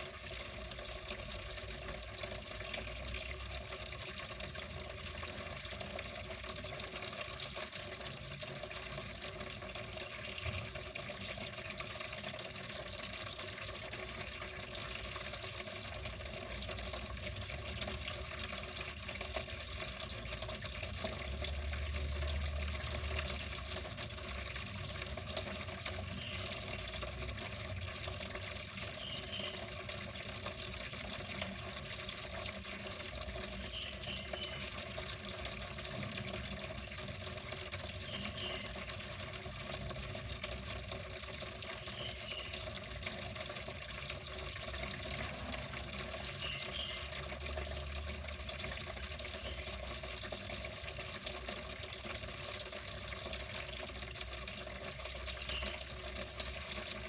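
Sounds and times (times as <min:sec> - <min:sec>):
water running: 0:00.0 - 0:57.0.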